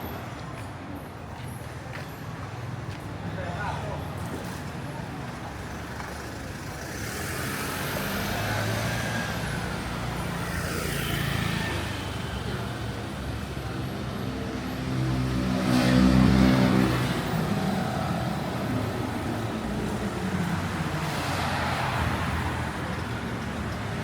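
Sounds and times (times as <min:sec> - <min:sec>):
traffic passing: 0:00.0 - 0:24.0.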